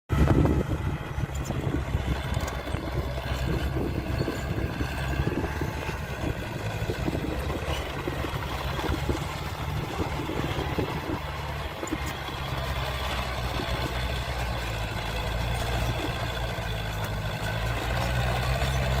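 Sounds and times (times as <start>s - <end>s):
diesel engine running steadily: 0.1s - 19.0s.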